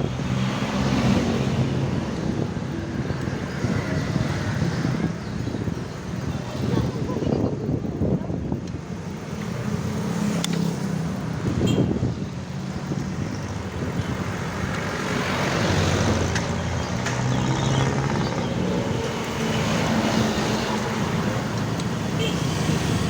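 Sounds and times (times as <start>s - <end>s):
street noise: 0.0s - 23.0s
vehicle engines running: 0.0s - 23.0s.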